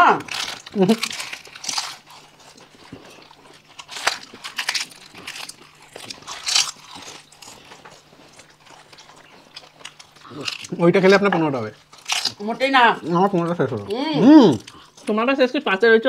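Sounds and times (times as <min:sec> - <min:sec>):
crisp shells crunching: 0:00.0 - 0:15.2
wet chewing: 0:00.0 - 0:15.6.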